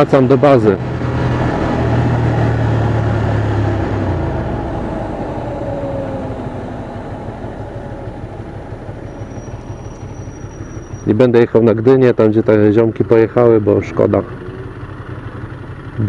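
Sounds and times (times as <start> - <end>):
motorcycle engine: 0.0 - 16.0.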